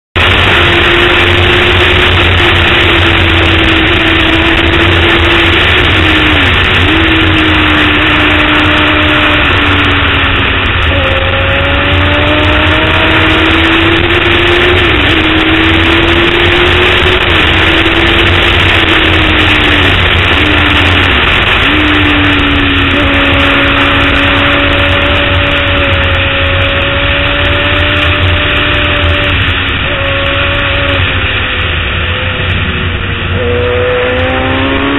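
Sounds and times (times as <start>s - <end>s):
motorcycle engine revving hard: 0.2s - 34.9s
wind noise over microphone: 0.2s - 34.9s.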